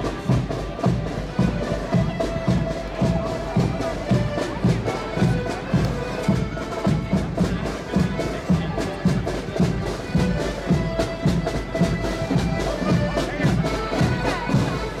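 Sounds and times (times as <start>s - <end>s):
accordions playing a march: 0.0s - 15.0s
bass and snare drums: 0.0s - 15.0s.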